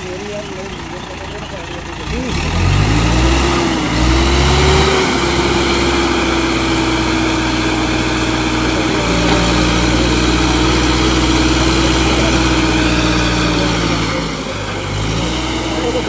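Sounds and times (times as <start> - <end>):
diesel engine running: 0.0 - 16.0
crane boom whine: 2.9 - 16.0.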